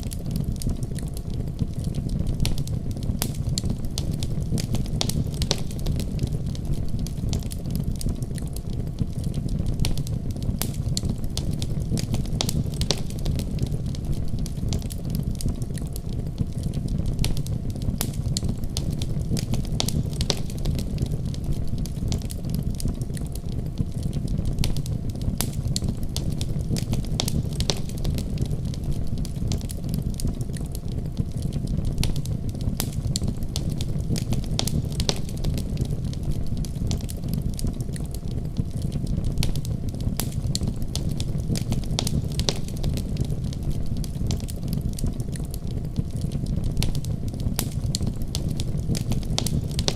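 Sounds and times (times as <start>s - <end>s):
burning wood crackling and popping: 0.0s - 49.9s
fire flames rumbling: 0.0s - 49.9s.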